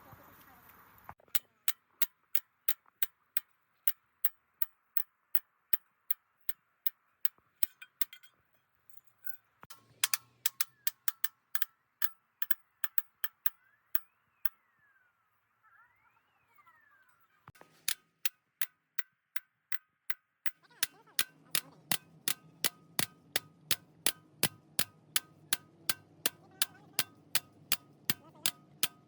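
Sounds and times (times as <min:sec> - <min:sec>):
regular sharp ticking: 0:01.2 - 0:08.2, 0:09.6 - 0:14.6, 0:17.6 - 0:29.0.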